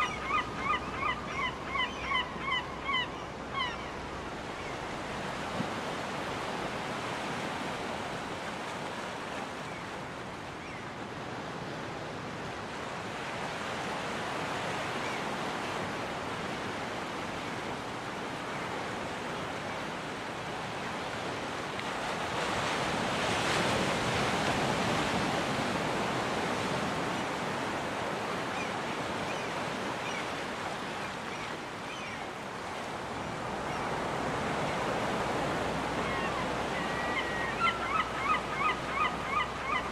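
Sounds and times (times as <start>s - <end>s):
ocean surf breaking on beach: 3.3s - 39.9s.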